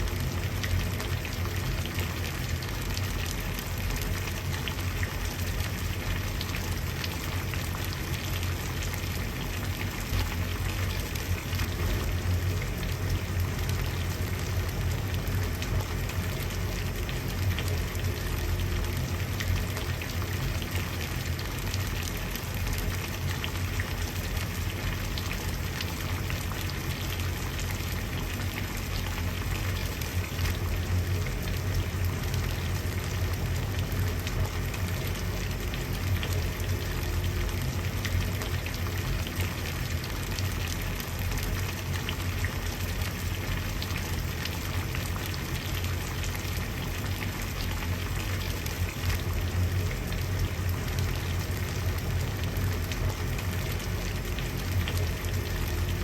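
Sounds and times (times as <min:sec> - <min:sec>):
water boiling: 0:00.0 - 0:56.0.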